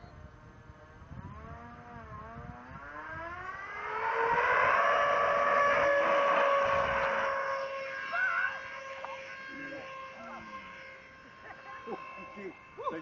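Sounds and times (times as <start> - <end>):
model jet engine whine: 0.0 - 13.0.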